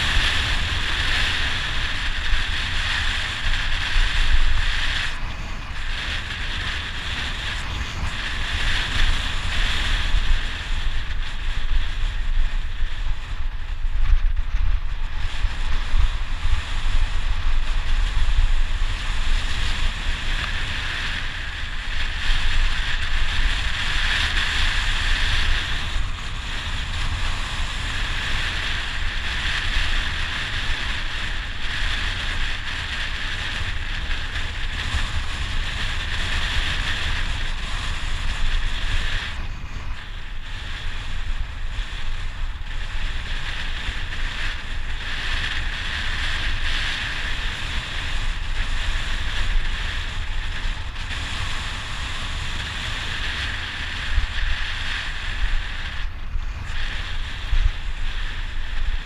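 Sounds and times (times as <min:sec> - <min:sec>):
bicycle tyre noise: 0:00.0 - 0:59.0
rush of air: 0:00.0 - 0:59.0
wind buffeting microphone: 0:00.0 - 0:59.0.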